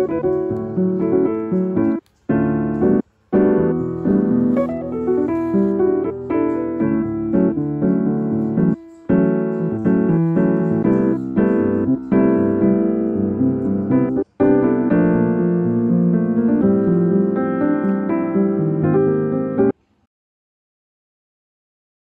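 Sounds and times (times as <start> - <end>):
piano melody: 0.0 - 19.8.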